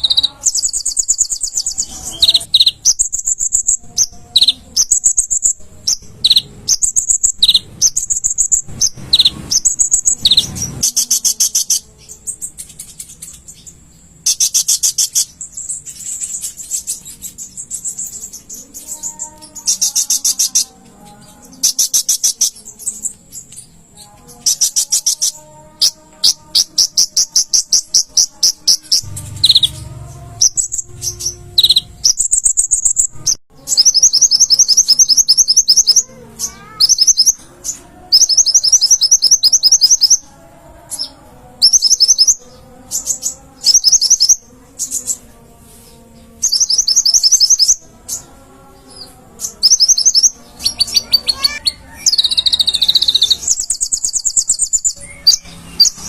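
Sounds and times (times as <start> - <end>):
bird singing high trills: 0.0 - 56.0.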